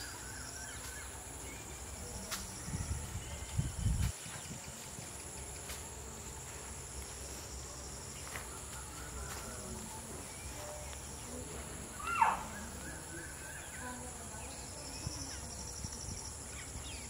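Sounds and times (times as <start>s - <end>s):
crickets chorus: 0.0s - 17.0s
faint chirping calls: 0.0s - 17.0s.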